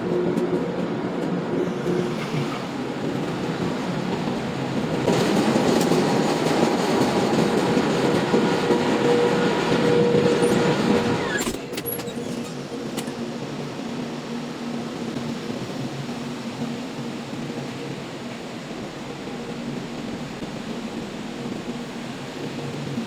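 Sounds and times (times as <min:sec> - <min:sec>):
engine room machinery roar: 0:00.0 - 0:23.0.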